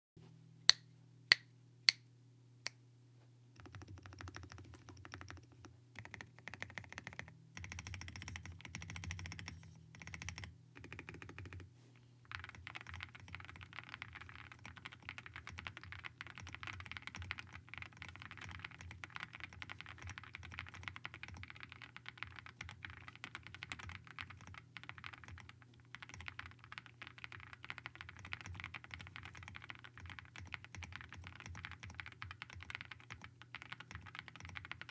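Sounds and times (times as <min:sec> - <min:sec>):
typing on mechanical keyboard: 0:03.6 - 0:11.7, 0:12.3 - 0:34.9.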